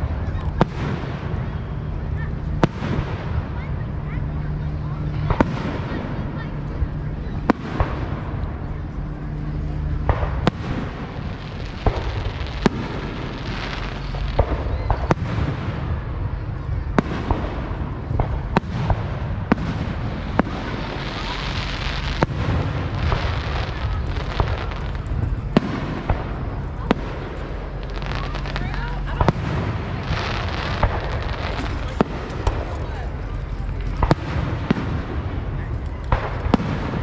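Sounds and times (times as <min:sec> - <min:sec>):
fireworks bangs: 0:00.0 - 0:37.0
low background rumble: 0:00.0 - 0:37.0.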